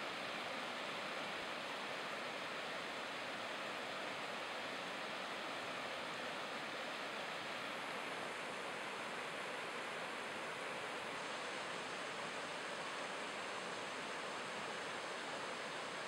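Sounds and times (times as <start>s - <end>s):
river rushing over rapids: 0.0s - 16.0s.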